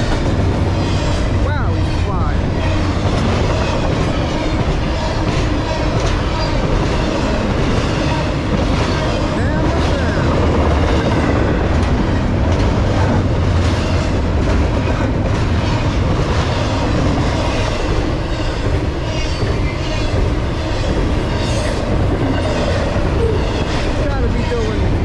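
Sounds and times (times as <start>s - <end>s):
freight train rumbling: 0.0s - 25.0s
wheels clacking over rail joints: 0.0s - 25.0s.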